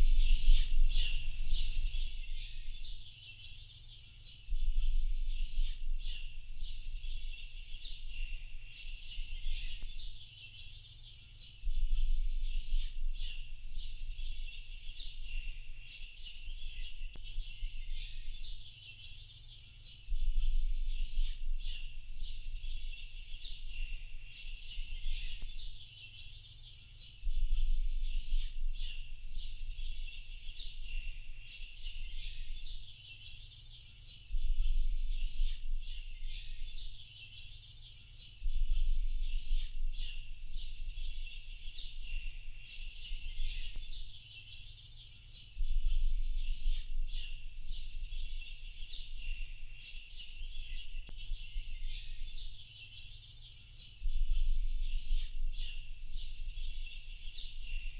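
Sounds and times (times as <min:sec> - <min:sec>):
birds chirping and twittering: 0:00.0 - 0:57.9.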